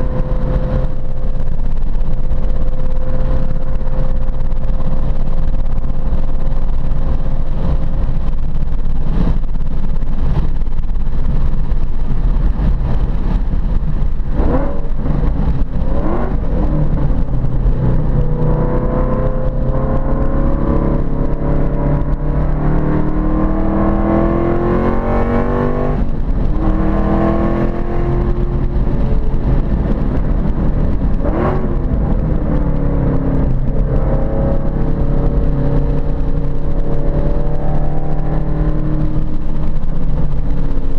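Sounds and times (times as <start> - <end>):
car engine accelerating: 0.0 - 40.9
wind and road noise rumble: 0.0 - 40.9.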